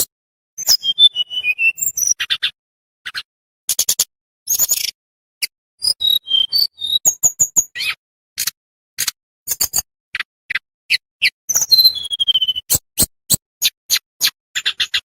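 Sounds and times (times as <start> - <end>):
songbird clicking and whistling: 0.0 - 15.0.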